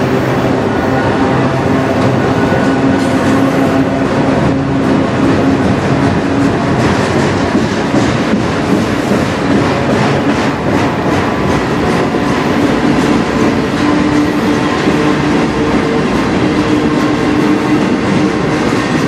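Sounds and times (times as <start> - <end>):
steel wheels rumbling on rail: 0.0 - 19.0
wheels clicking over rail joints: 0.0 - 19.0.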